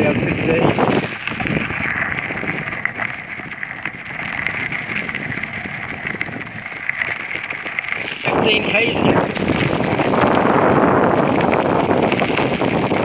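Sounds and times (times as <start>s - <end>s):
bicycle riding noise: 0.0s - 13.0s
wind on microphone: 0.0s - 13.0s
small clicks and rattles: 0.8s - 13.0s.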